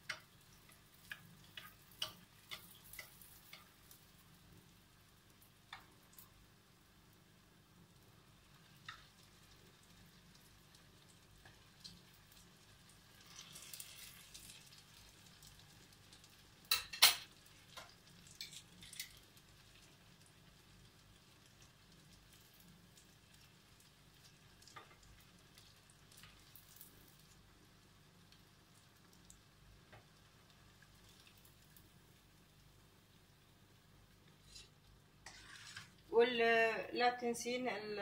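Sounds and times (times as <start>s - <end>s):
batter sizzling in oil: 0.0s - 36.8s.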